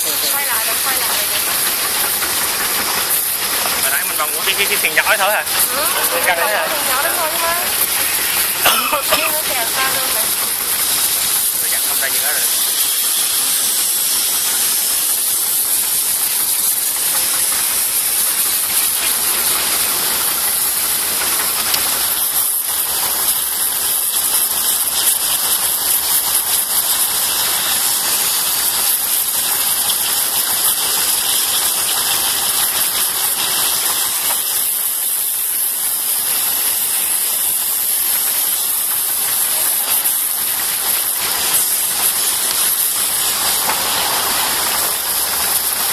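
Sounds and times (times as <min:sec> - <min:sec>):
steady outdoor hiss: 0:00.0 - 0:45.9.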